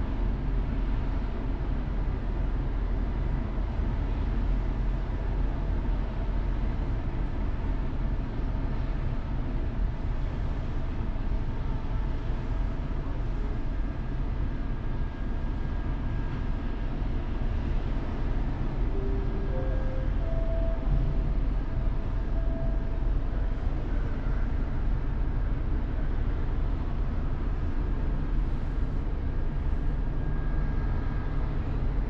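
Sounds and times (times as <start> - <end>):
machinery and harbour rumble: 0.0 - 32.0.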